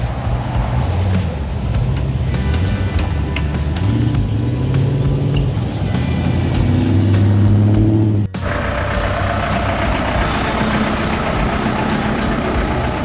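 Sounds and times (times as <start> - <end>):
background music: 0.0 - 13.0
car engine running: 0.0 - 13.0
noisier engine sound: 0.0 - 13.0.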